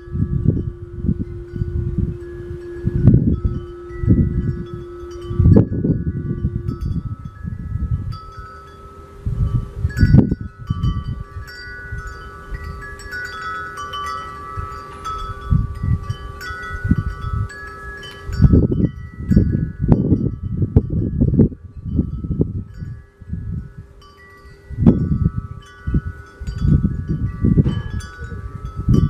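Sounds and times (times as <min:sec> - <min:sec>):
wind chimes ringing: 0:00.0 - 0:29.0
wind rumbling on microphone: 0:00.0 - 0:29.0.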